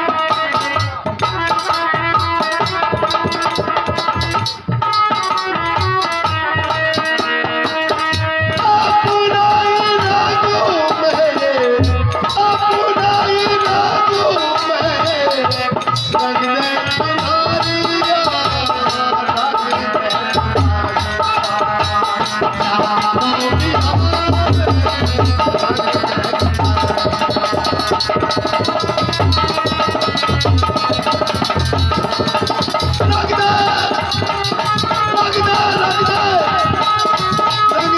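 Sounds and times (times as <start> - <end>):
hand drum rhythm: 0.0 - 37.9
wavering devotional melody: 0.0 - 37.9.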